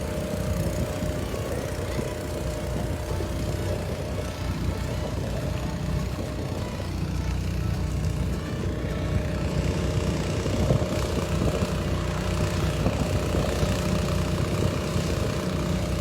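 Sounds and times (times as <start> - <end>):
vehicle engines idling: 0.0 - 16.0.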